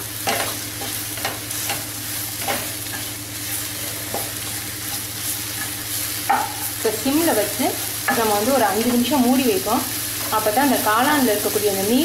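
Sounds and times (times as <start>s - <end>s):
mushrooms sizzling in a pan: 0.0s - 12.0s.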